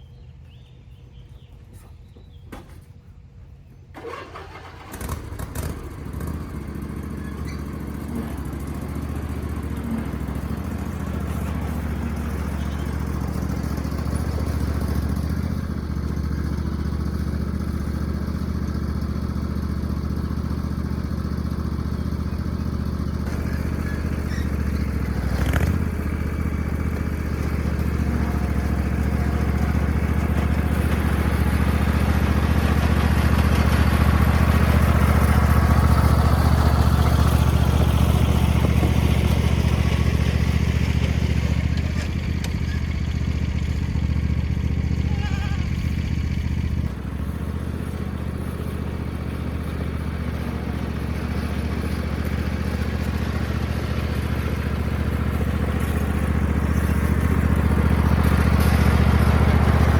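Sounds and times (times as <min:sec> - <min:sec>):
small engine running: 0:04.0 - 0:59.9.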